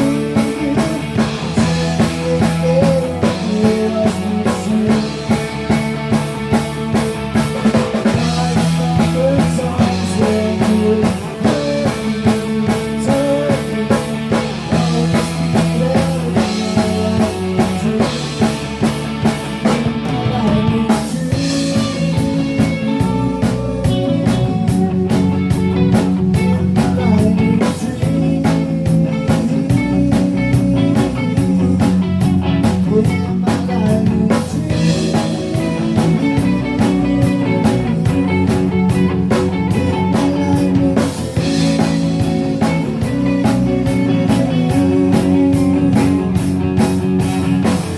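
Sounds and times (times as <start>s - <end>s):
bass guitar: 0.0s - 47.9s
drum kit beat: 0.0s - 47.9s
electric guitar: 0.0s - 47.9s.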